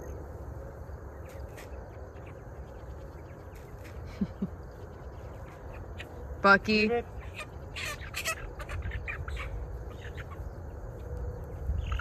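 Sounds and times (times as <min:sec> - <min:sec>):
insects chirping: 0:00.0 - 0:12.0
steady low rumble: 0:00.0 - 0:12.0.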